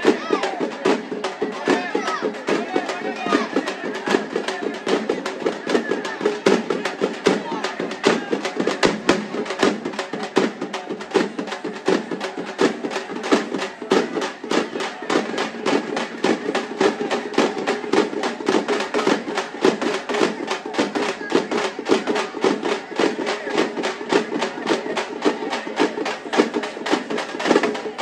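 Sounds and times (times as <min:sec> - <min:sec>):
fast steady drumming: 0:00.0 - 0:28.0.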